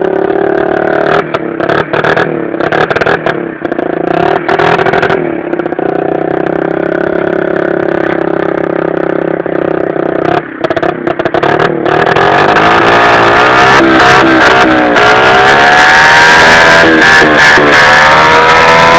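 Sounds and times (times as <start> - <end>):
scooter engine revving: 0.0 - 18.9.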